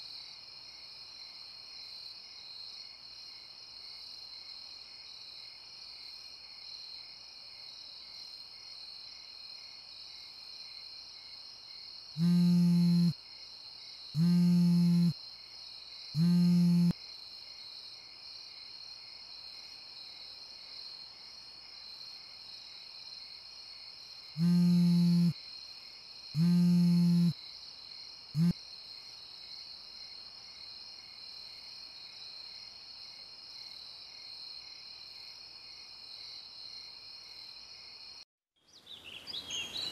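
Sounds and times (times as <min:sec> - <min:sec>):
crickets chirping: 0:00.0 - 0:38.2.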